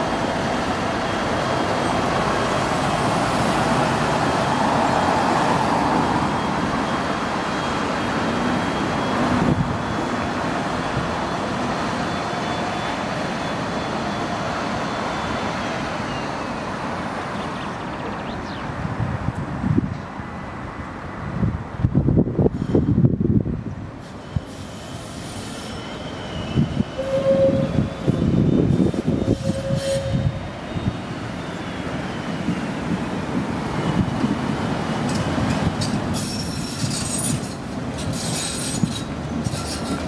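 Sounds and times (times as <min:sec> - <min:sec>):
passing road traffic: 0:00.0 - 0:40.0
tram rolling on track: 0:00.0 - 0:40.0.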